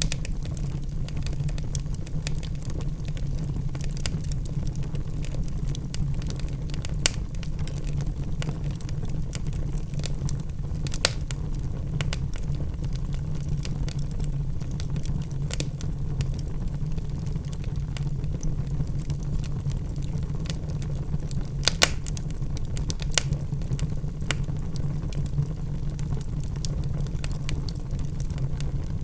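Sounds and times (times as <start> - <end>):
wood fire burning: 0.0 - 29.0.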